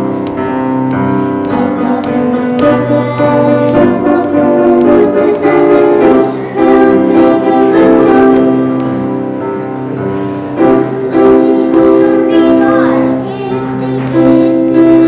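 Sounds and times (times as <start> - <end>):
electronic keyboard playing chords: 0.0 - 15.0.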